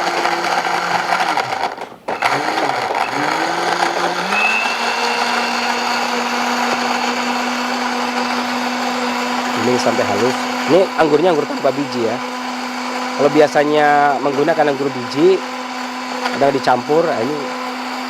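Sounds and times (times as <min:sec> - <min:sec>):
electric blender running: 0:00.0 - 0:18.0.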